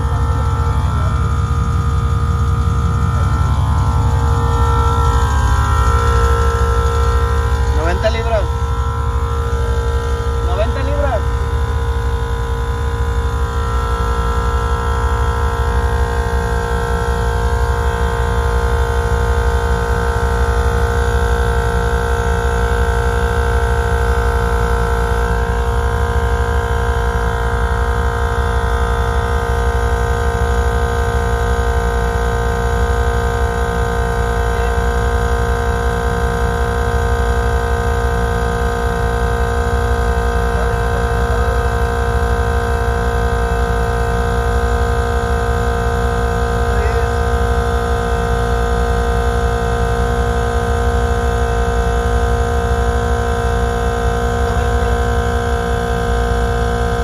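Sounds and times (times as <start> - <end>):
air compressor running: 0.0 - 57.0.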